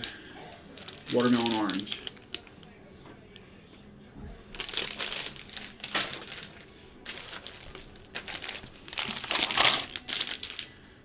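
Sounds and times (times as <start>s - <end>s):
plastic bags crinkling: 0.0s - 2.7s, 4.5s - 10.9s.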